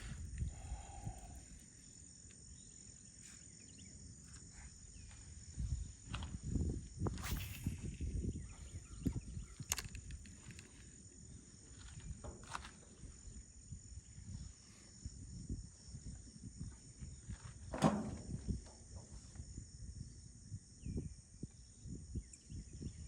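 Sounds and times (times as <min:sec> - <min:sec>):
high-pitched insect drone: 0:00.0 - 0:17.6, 0:18.3 - 0:23.0.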